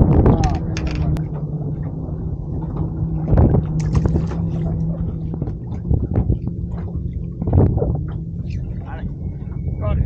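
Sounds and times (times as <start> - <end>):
boat motor humming: 0.0 - 10.0
knocks and clatters on boat: 0.0 - 10.0.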